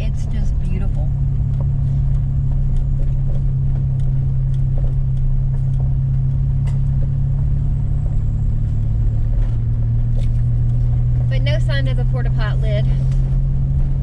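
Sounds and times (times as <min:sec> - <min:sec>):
engine and road noise drone: 0:00.0 - 0:14.0.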